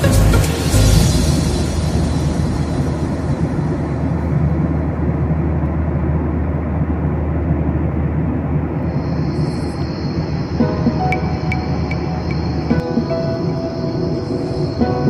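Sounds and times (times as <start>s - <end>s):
jet engine cabin rumble: 0.6s - 15.0s
faint steady hum: 0.9s - 15.0s.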